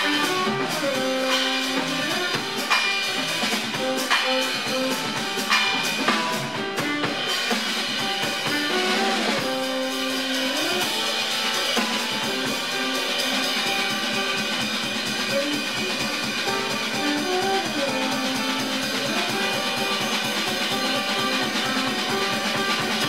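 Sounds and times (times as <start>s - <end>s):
drum kit: 0.0s - 23.0s
piano: 0.0s - 23.0s
tenor saxophone: 0.0s - 23.0s.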